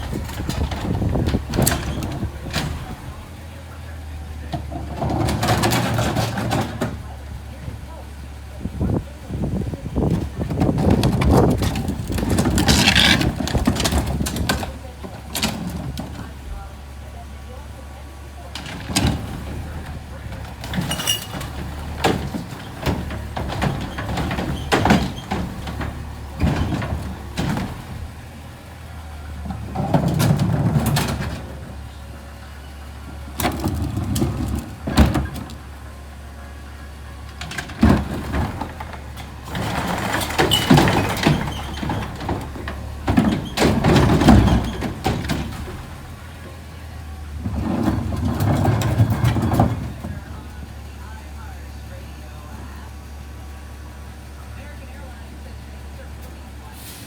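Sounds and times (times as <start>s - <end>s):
sharp bangs and clatter: 0.0s - 17.7s, 18.4s - 32.1s, 32.9s - 36.2s, 36.9s - 51.0s
garbage truck engine running: 0.0s - 57.0s.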